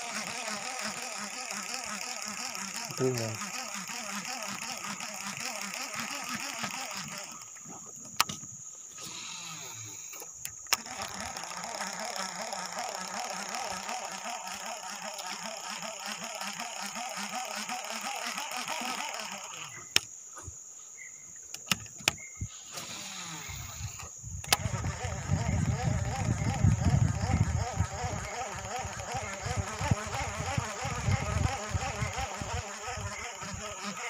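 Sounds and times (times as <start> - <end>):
fishing reel gear whirr: 0.0 - 20.0, 21.5 - 34.0
sharp reel clicks: 0.0 - 20.2, 21.4 - 34.0.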